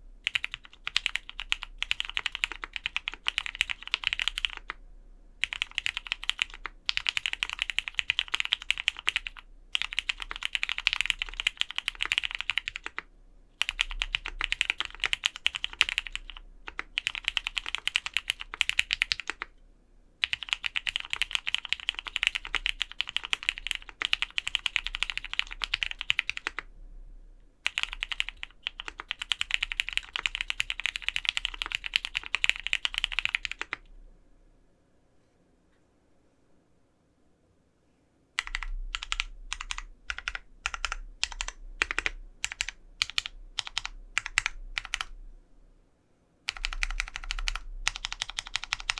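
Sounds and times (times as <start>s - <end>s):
fast typing on mechanical keyboard: 0.2s - 4.8s, 5.4s - 19.5s, 20.2s - 26.7s, 27.6s - 33.9s, 38.4s - 45.1s, 46.5s - 48.9s.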